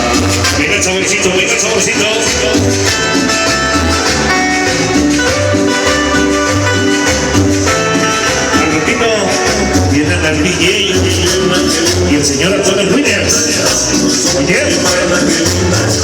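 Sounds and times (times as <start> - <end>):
latin dance music: 0.0 - 16.0.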